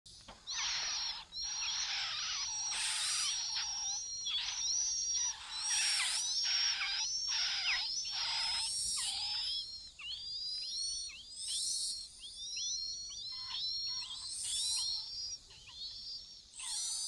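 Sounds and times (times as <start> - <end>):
nestlings chirping: 0.1 - 17.0.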